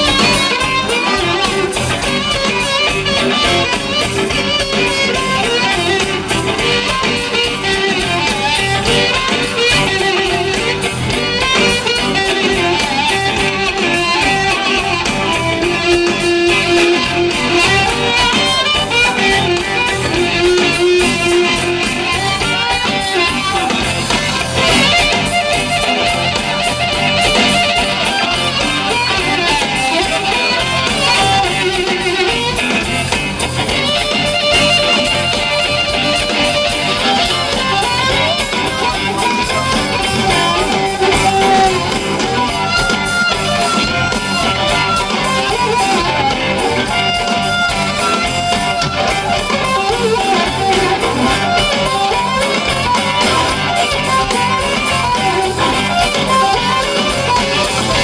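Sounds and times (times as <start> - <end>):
electric guitar: 0.0 - 58.0
harmonica: 0.0 - 58.0.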